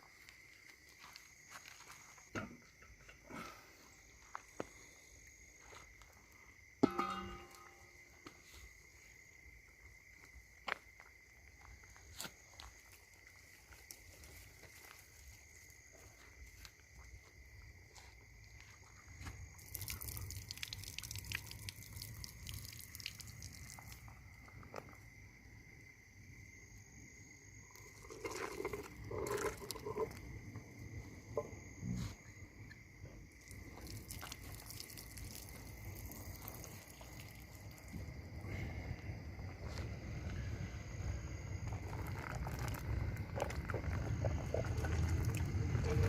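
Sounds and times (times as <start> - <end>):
insect trill: 0.0 - 46.0.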